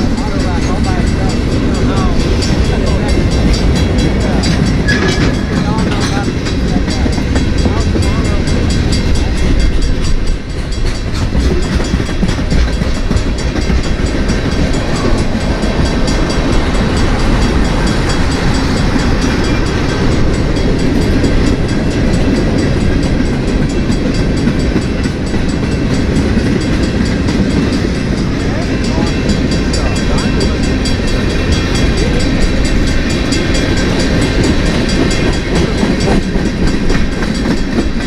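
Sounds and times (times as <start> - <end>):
freight train rumbling on rails: 0.0 - 38.0
wheels clicking over rail joints: 0.0 - 38.0.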